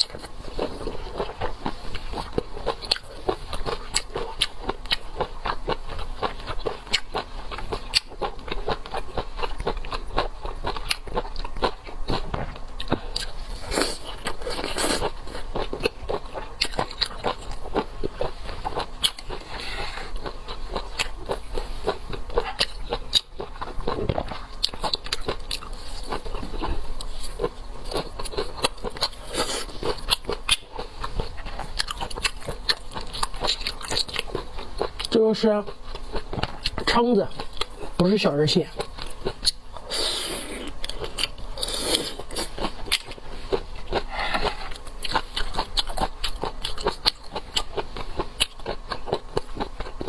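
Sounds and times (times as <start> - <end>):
chewing and biting seafood: 0.0 - 50.0.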